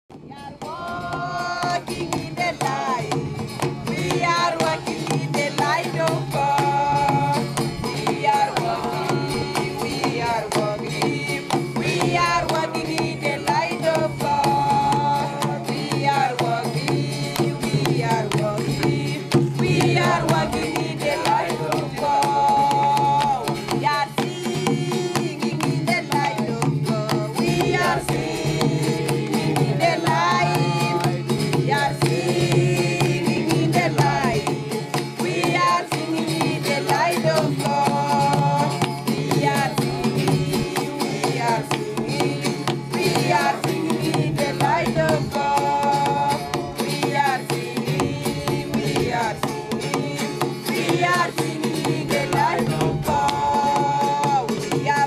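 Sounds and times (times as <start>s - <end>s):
drum beats: 0.1s - 55.0s.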